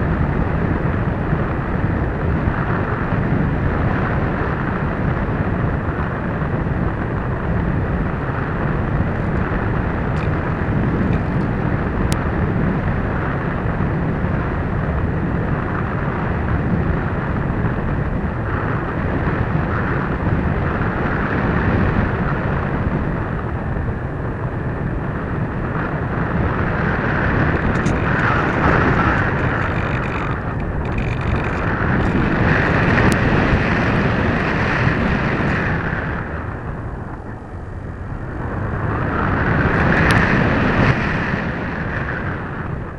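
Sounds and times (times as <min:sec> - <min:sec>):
wind rushing across microphone: 0:00.0 - 0:42.9.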